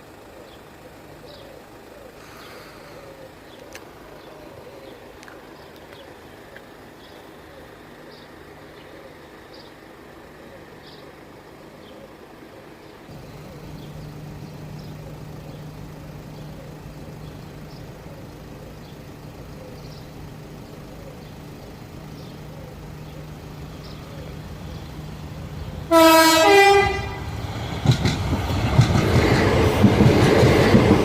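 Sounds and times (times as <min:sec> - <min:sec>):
low vehicle hum: 0:00.0 - 0:31.0.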